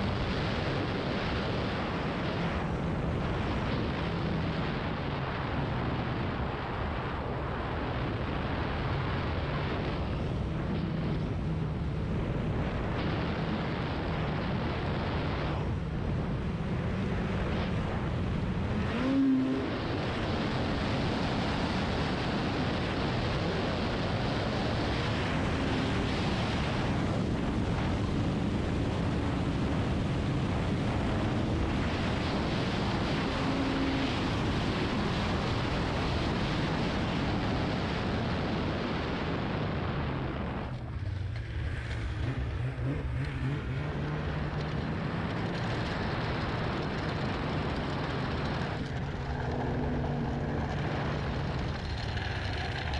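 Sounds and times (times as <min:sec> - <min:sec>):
snowmobile engine rushing: 0:00.0 - 0:52.9.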